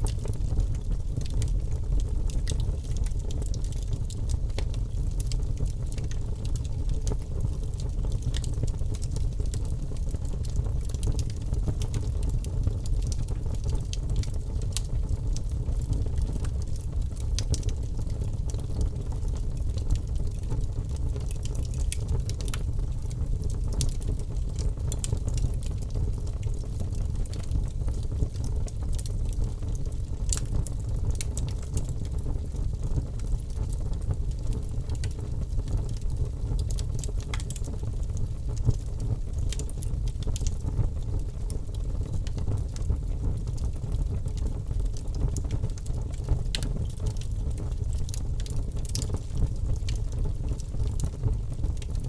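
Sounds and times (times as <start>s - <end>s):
fire crackling and popping: 0.0s - 52.0s
fire flames rumbling: 0.0s - 52.0s.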